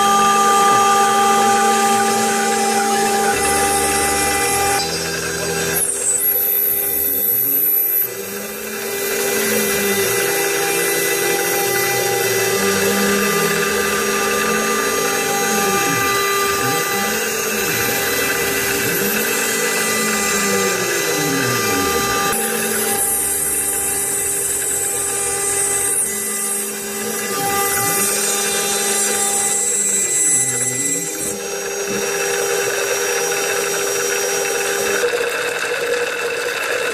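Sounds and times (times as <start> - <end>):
lower machine tone: 0.0 - 32.3
cutting noise: 0.0 - 35.1
router spindle high whine: 0.0 - 36.9.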